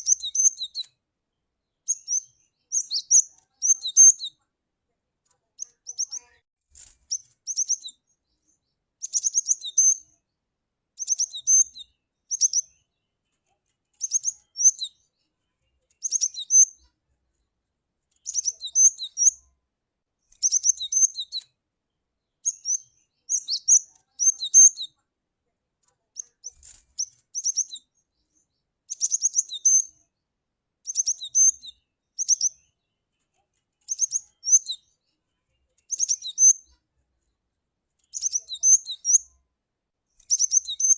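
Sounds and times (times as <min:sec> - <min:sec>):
bird chirping: 0:00.0 - 0:04.5, 0:05.4 - 0:10.4, 0:11.0 - 0:17.5, 0:18.1 - 0:19.6, 0:20.2 - 0:25.0, 0:25.9 - 0:39.4, 0:40.1 - 0:40.9.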